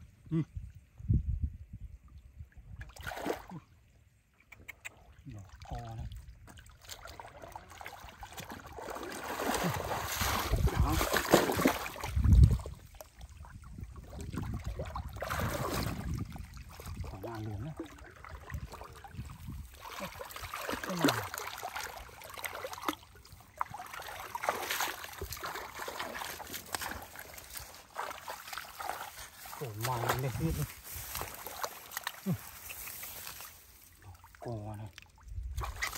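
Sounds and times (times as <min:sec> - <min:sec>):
hands splashing through muddy water: 0:02.8 - 0:03.6, 0:05.5 - 0:35.9.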